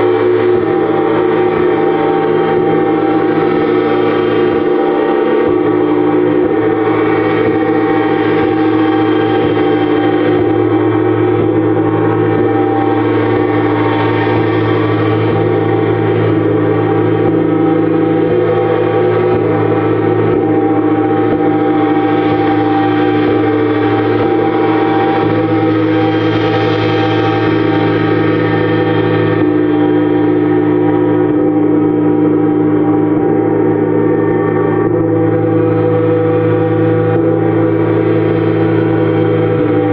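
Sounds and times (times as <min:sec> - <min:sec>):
gong ringing: 0:00.0 - 0:39.9.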